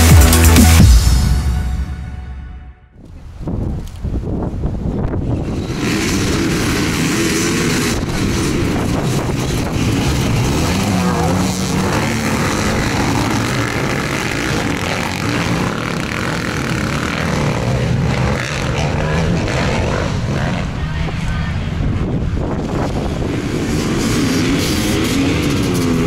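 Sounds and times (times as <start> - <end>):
dirt bike engines revving: 4.4 - 26.0.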